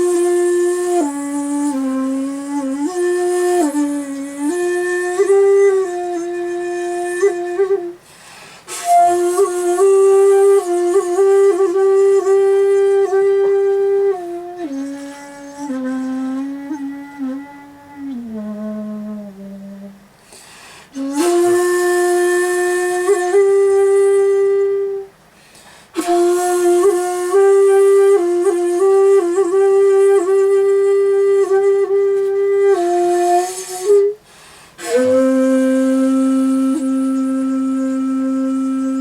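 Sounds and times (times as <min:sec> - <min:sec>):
bamboo flute breathy held notes: 0:00.0 - 0:39.0.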